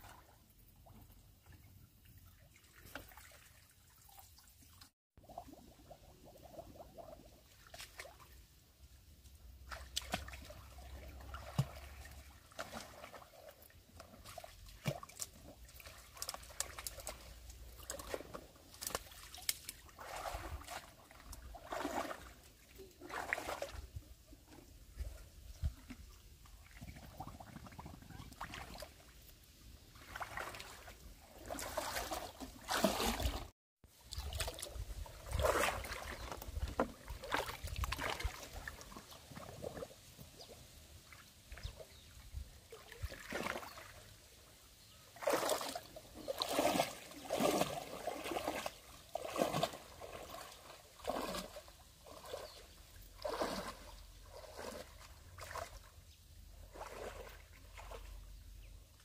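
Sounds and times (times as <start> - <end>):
water sloshing and splashing: 0.0 - 8.5, 9.2 - 44.4, 45.1 - 58.7.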